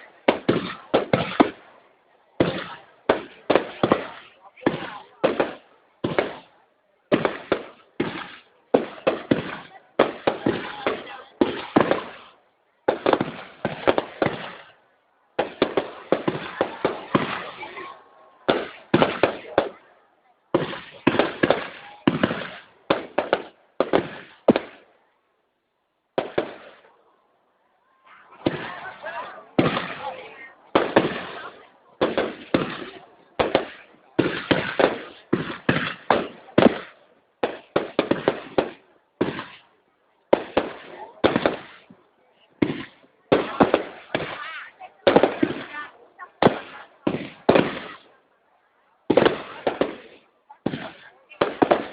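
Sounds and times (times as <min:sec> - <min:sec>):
fireworks bursting with echoing bangs: 0:00.0 - 0:25.0, 0:26.1 - 0:27.2, 0:27.9 - 0:48.2, 0:49.0 - 0:51.9.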